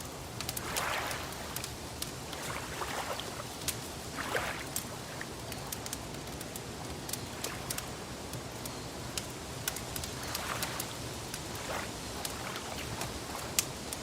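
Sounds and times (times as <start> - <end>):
wood fire crackling and popping: 0.0 - 2.8, 4.7 - 14.0
steady hiss: 0.0 - 14.0
lake water lapping: 0.2 - 14.0.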